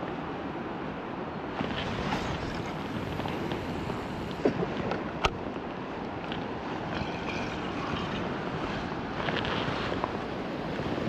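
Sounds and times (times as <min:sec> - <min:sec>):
wind noise on microphone: 0:01.4 - 0:11.0.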